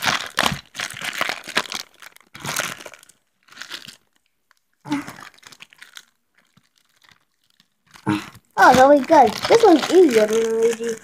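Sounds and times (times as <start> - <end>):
plastic packaging crinkling and tearing: 0.0 - 11.0.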